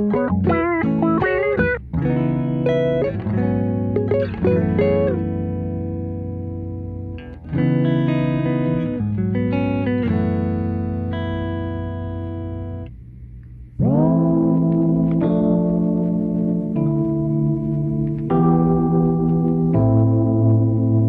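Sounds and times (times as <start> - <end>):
guitar playing held chords: 0.0 - 21.0.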